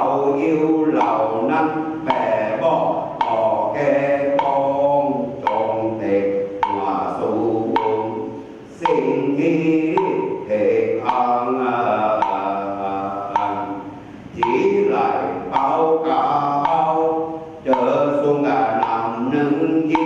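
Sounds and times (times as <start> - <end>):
voices chanting: 0.0 - 20.0
wood block struck: 0.0 - 20.0.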